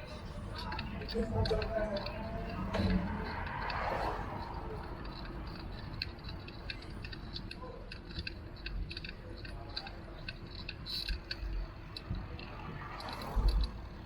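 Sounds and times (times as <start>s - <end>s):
bicycle ticking and clicking: 0.0s - 14.0s
low road rumble: 0.0s - 14.0s.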